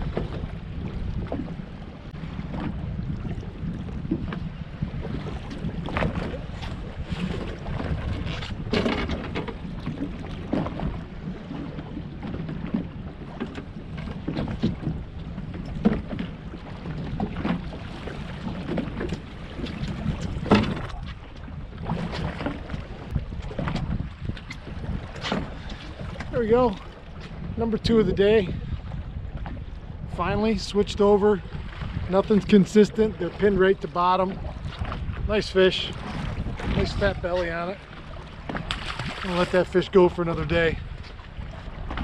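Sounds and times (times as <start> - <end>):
knocks and splashes: 0.0 - 29.6, 31.5 - 42.0
waves slapping boat hull: 0.0 - 42.0
wind buffeting microphone: 0.0 - 42.0.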